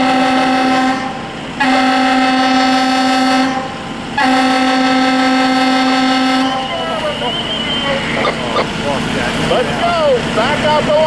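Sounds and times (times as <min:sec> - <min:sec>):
fire truck air horn blasts: 0:00.0 - 0:09.5.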